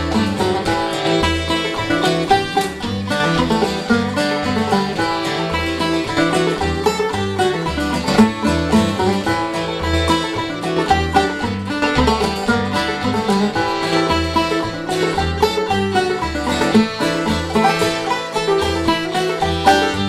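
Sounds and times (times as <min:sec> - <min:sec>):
banjo: 0:00.0 - 0:20.0
string band playing: 0:00.0 - 0:20.0.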